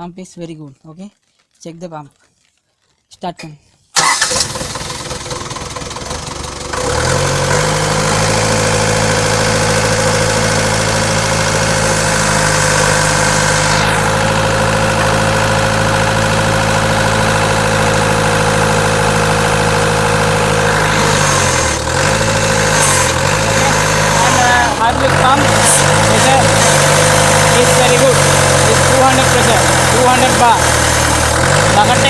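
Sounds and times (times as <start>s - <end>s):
excavator diesel engine whining: 4.0s - 32.0s.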